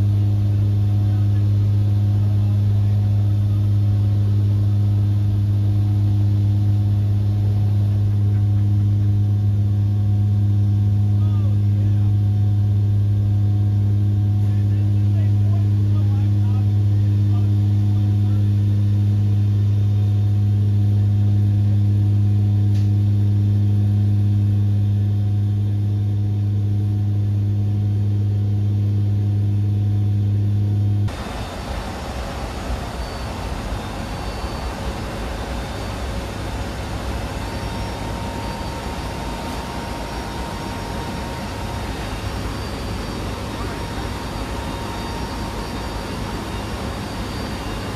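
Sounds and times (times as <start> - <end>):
deep propeller drone: 0.0 - 47.9.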